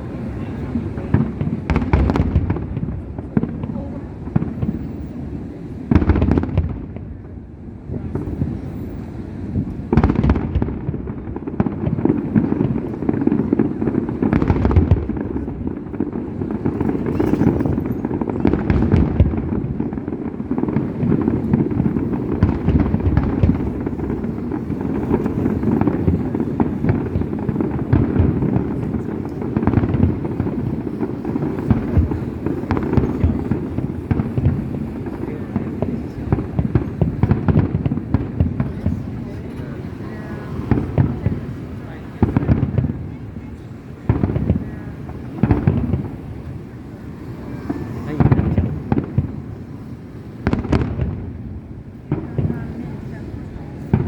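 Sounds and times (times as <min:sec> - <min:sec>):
fireworks bangs and crackling: 0:00.0 - 0:54.0
fireworks booms: 0:00.0 - 0:54.0.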